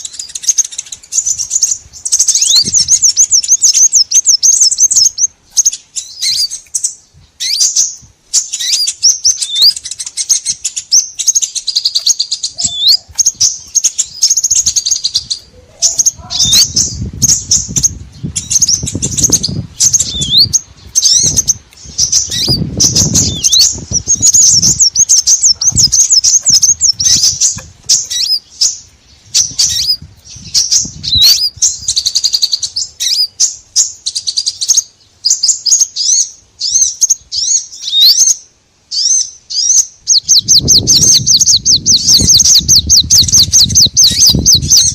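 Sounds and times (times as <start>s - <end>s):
songbirds chirping and twittering: 0.0s - 44.9s.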